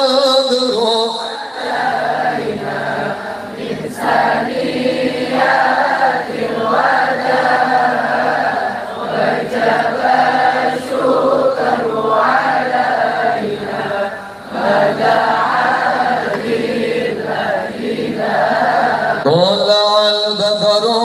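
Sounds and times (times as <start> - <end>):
men chanting devotional song: 0.0 - 21.0.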